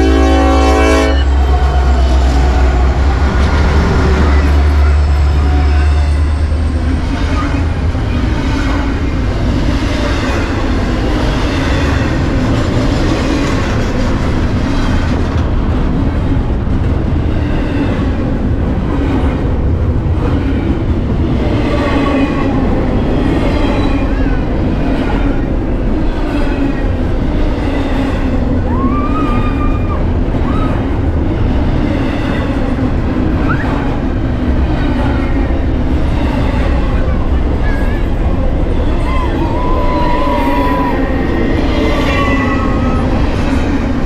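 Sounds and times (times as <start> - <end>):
freight train wheels running: 0.0 - 44.0.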